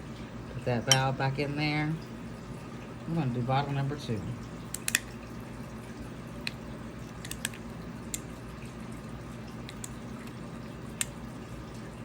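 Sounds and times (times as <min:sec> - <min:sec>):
faint water background: 0:00.0 - 0:12.0
sharp drips and clicks: 0:00.8 - 0:12.0.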